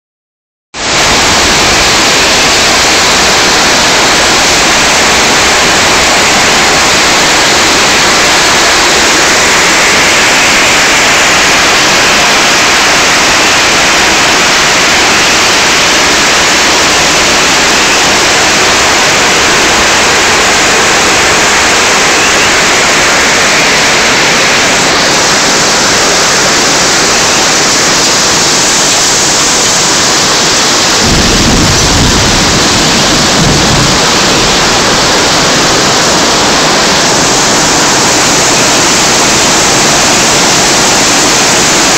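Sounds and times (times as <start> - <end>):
hail and rain pelting down: 0.8 - 41.9.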